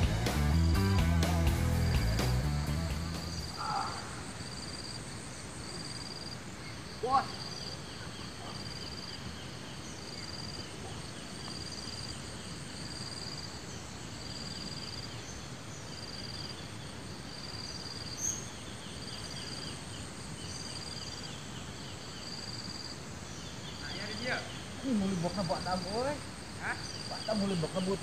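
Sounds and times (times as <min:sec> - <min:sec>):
steady background hiss: 0:00.0 - 0:28.0
insect trilling: 0:03.0 - 0:15.4, 0:17.2 - 0:28.0.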